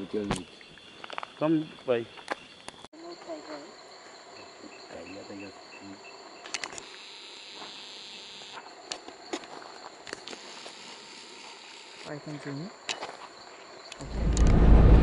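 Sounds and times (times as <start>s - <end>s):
insects chirping and buzzing: 0.0s - 14.7s.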